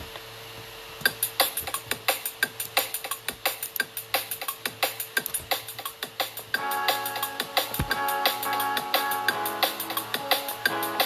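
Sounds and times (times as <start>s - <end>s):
electronic drum loop: 1.0s - 11.0s.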